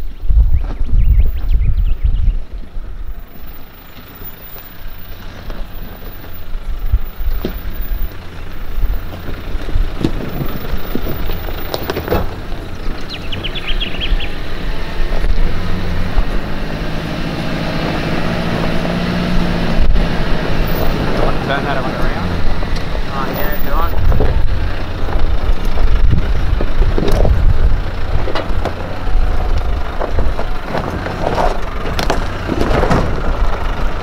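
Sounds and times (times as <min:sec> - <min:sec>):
vehicle engine running low: 0:00.0 - 0:34.0
tyres crunching over stones: 0:02.7 - 0:17.1, 0:17.8 - 0:34.0.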